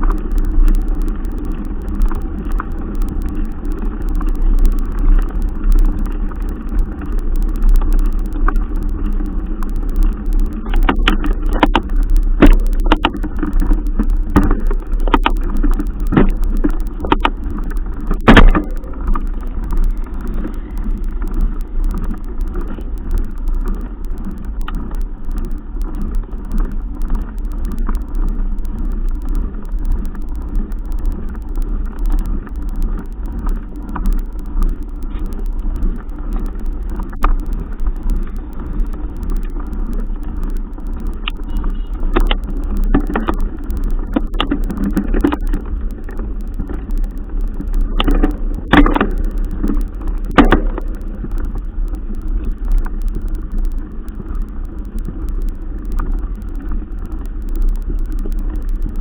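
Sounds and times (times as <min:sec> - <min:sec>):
sharp knocks and clicks: 0:00.0 - 0:58.9
wind noise on microphone: 0:00.0 - 0:59.0.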